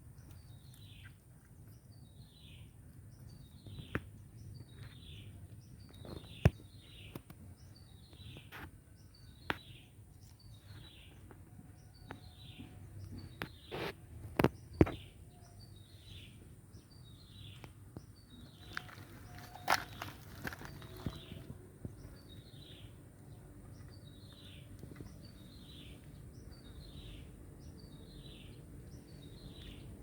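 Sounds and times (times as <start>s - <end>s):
bird chirping: 0.0s - 30.0s.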